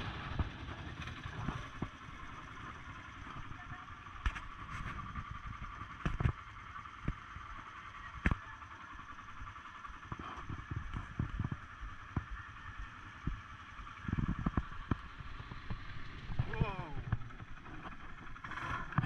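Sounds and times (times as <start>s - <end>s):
atv engines idling: 0.0s - 19.0s.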